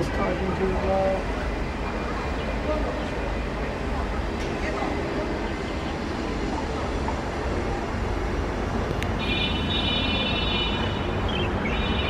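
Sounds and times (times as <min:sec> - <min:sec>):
distant city traffic: 0:00.0 - 0:12.0.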